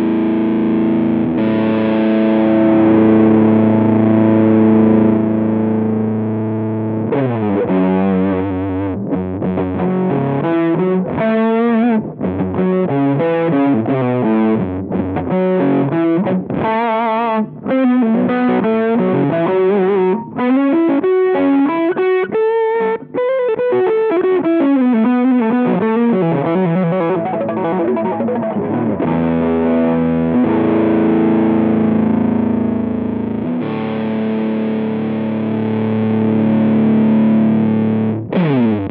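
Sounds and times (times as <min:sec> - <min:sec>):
fuzzed electric guitar: 0:00.0 - 0:38.9.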